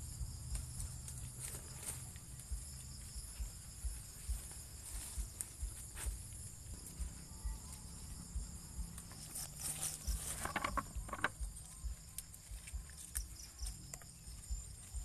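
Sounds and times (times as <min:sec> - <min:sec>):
dull low bumps: 0:00.0 - 0:15.0
insect chorus: 0:00.0 - 0:15.0
leaves and twigs crackling: 0:00.5 - 0:15.0.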